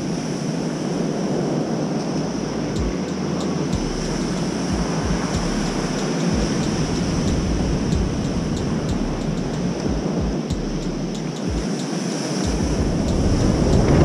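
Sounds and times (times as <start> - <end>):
surf washing on cobble beach: 0.0 - 8.9, 11.3 - 14.0
wind buffeting microphone: 0.0 - 14.0.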